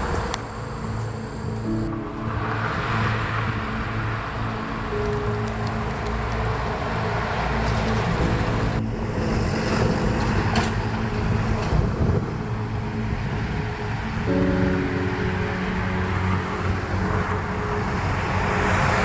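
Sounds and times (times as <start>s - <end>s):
highway traffic noise: 0.0s - 19.0s
vehicles passing: 0.0s - 19.0s.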